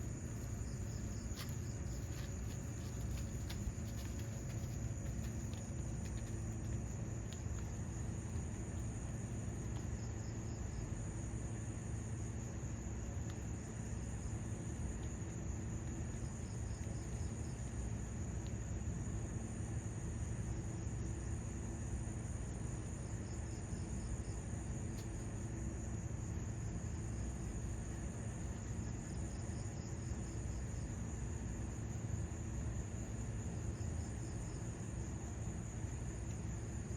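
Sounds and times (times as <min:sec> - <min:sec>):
insects trilling: 0:00.0 - 0:21.3, 0:22.4 - 0:36.9
low steady hum: 0:00.0 - 0:36.9.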